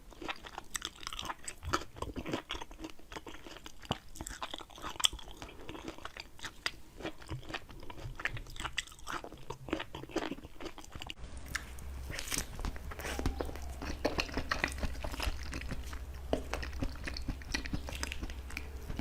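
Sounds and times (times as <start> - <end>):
crunchy chewing of raw produce: 0.0 - 19.0.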